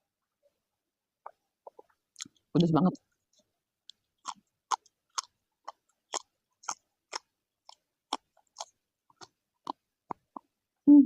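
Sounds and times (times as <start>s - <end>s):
person chewing food: 1.2s - 10.6s.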